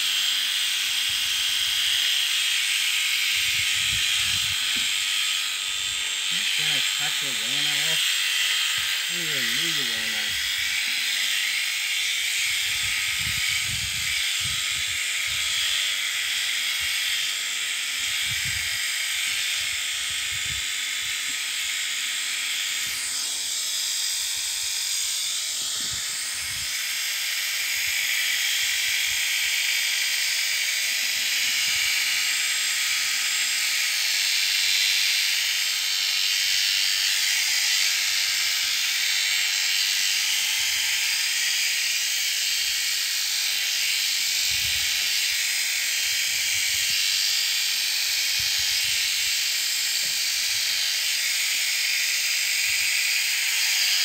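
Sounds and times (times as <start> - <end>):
electric shears buzzing: 0.0 - 54.0.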